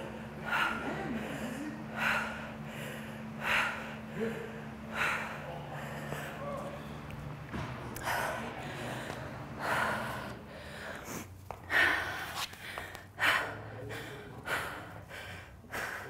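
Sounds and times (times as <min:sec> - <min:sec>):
woman breathing hard: 0:00.0 - 0:07.0, 0:08.0 - 0:16.0.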